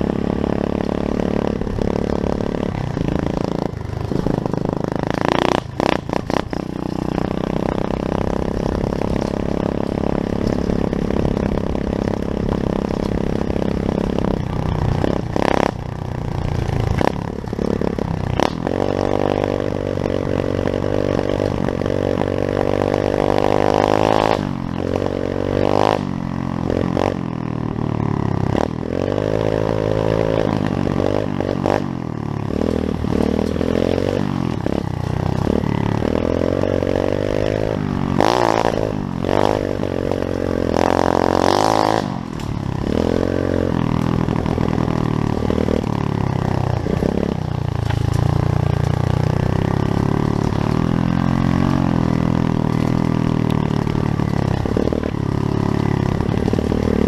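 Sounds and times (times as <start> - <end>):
small motorbike engine revving: 0.0 - 57.0.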